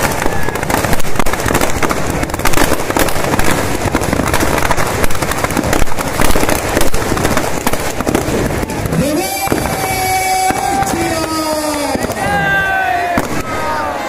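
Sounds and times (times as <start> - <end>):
firecrackers banging and crackling: 0.0 - 14.0.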